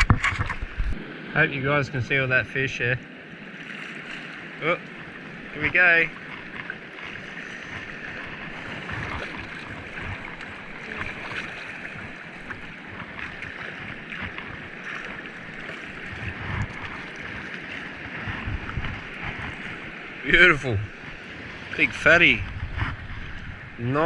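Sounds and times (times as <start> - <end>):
wind buffeting microphone: 0.0 - 24.0
sea water splashing around rocks: 3.0 - 24.0.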